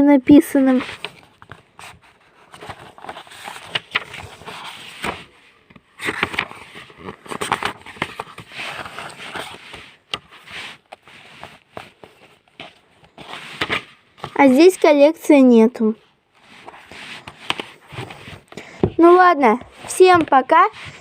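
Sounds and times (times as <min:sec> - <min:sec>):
book pages rustling: 0:00.5 - 0:21.0.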